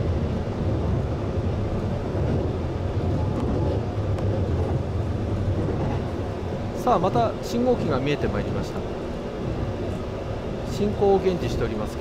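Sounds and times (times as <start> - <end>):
electric train running rumble: 0.0 - 12.0.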